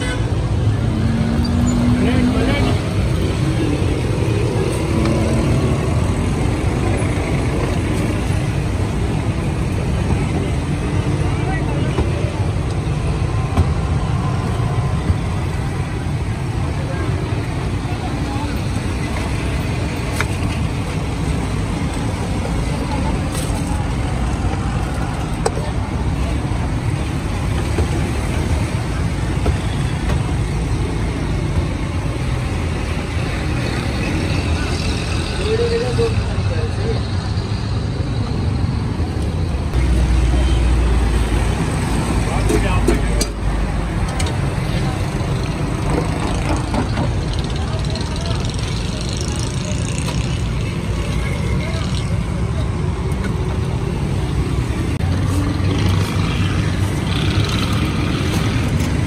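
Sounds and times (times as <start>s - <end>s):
car engines passing: 0.0s - 59.0s
motorbike engines passing: 0.0s - 59.0s
road traffic rumble: 0.0s - 59.0s.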